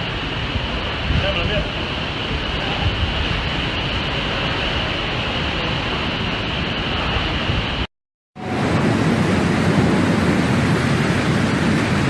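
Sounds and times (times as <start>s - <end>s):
wind and rain on microphone: 0.0s - 12.0s.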